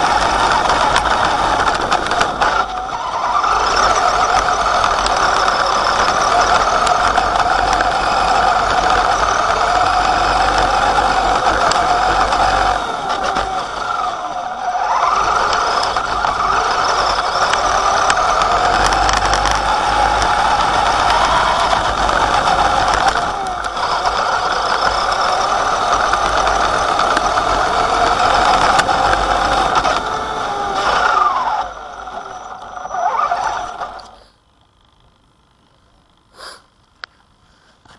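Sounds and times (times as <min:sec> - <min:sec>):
electric motor whining: 0:00.0 - 0:34.2.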